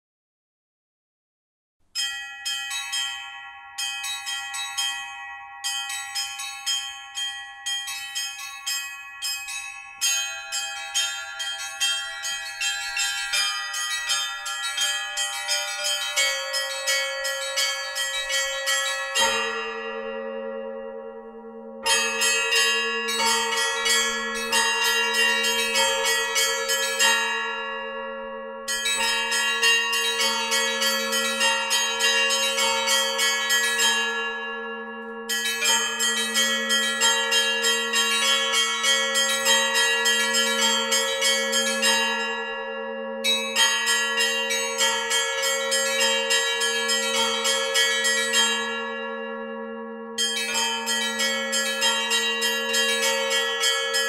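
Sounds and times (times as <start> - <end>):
small bells chiming in runs: 2.0 - 20.5, 21.8 - 28.1, 28.7 - 54.0.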